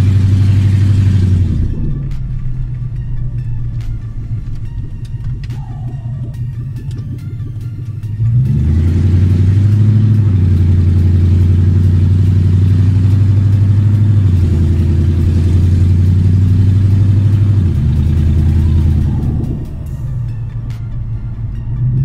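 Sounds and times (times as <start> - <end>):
car engine drone in cabin: 0.0 - 22.0.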